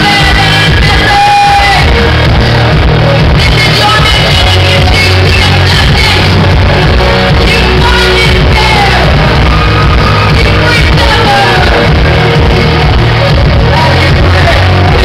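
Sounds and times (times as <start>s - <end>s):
loud live concert music with vocals: 0.0s - 15.0s.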